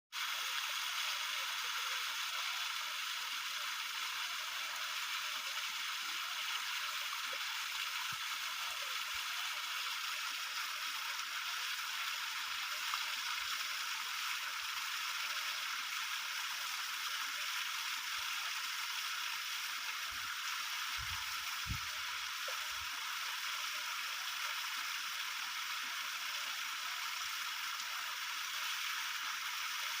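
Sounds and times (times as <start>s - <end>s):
rushing stream water: 0.4s - 30.0s.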